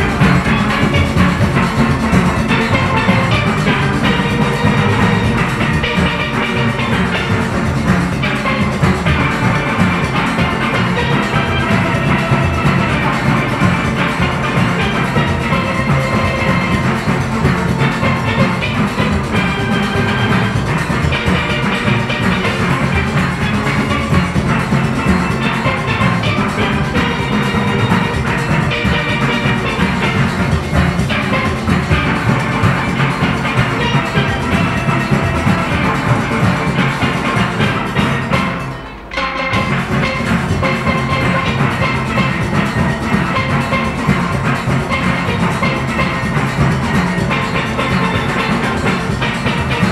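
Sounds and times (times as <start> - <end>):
drum and percussion rhythm: 0.0 - 49.9
steel pan orchestra playing calypso: 0.0 - 49.9.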